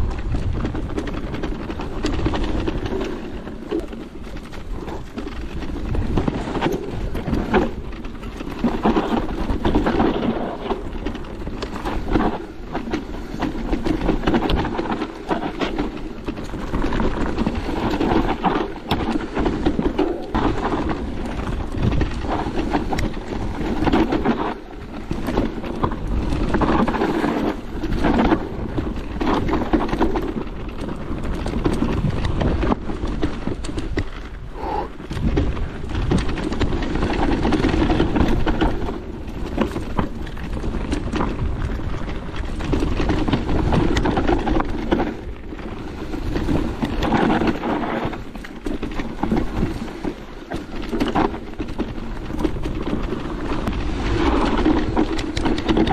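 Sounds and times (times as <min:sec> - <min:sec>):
bike knocks and rattles: 0:00.0 - 0:55.9
tyre rumble on rough trail: 0:00.0 - 0:55.9
wind buffeting microphone: 0:00.0 - 0:55.9.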